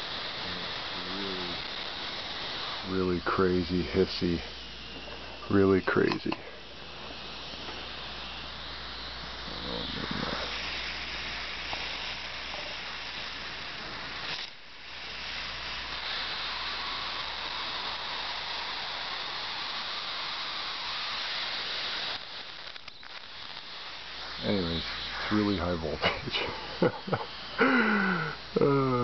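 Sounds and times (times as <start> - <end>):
high-voltage arc hissing: 0.0 - 29.0.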